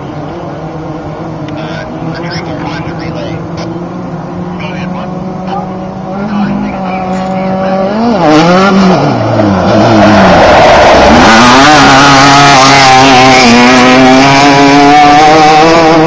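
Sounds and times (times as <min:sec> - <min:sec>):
race buggy engine passing: 0:00.0 - 0:16.0.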